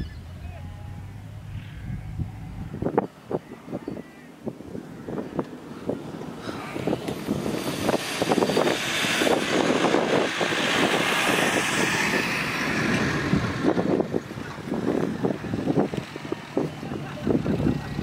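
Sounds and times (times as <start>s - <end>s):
pickup truck driving past: 0.0s - 3.7s, 4.3s - 18.0s.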